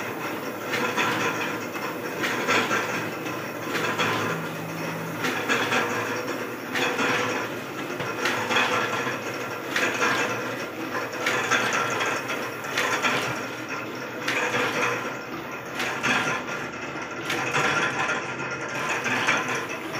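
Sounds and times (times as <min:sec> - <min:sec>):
printing press clattering: 0:00.0 - 0:19.9.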